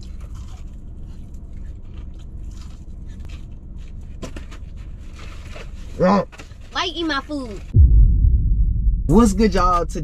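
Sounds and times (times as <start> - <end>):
low rumble inside car cabin: 0.0 - 10.0.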